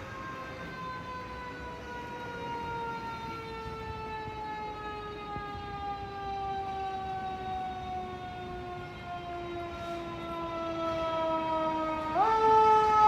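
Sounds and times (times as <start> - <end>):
fire truck siren wailing: 0.0 - 13.0.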